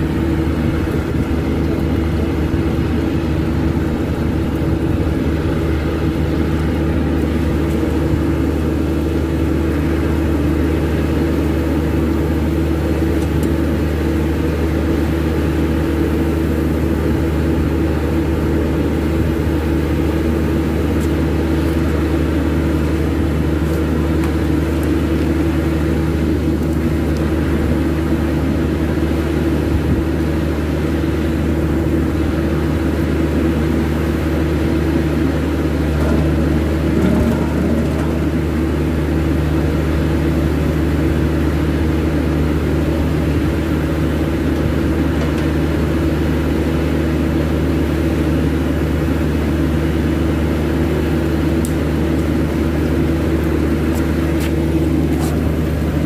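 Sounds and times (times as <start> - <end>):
airport machinery drone: 0.0 - 56.0.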